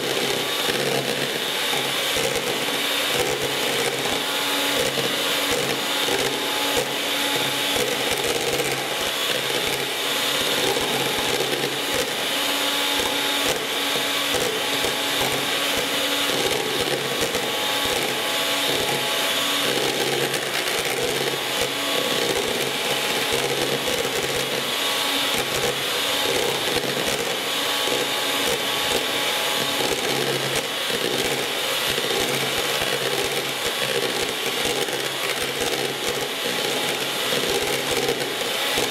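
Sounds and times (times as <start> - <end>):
electric hand mixer running: 0.0 - 38.9.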